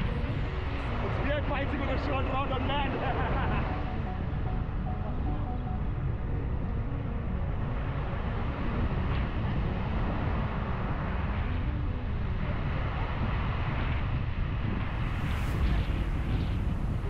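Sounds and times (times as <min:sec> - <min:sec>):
surf washing: 0:00.0 - 0:17.0
wind rumbling on microphone: 0:00.0 - 0:17.0.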